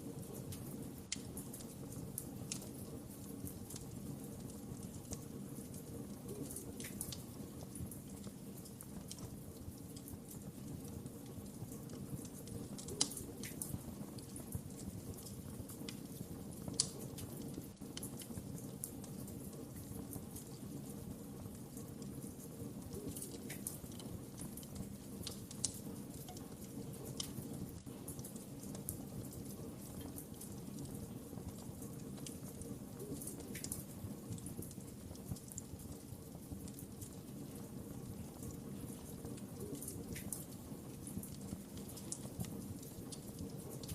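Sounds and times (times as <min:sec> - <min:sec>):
fire crackling: 0:00.0 - 0:43.9
fire popping and snapping: 0:00.0 - 0:43.9.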